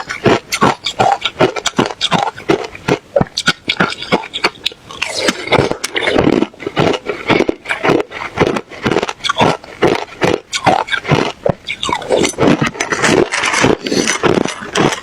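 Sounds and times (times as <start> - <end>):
person crunching ice: 0.0 - 15.0.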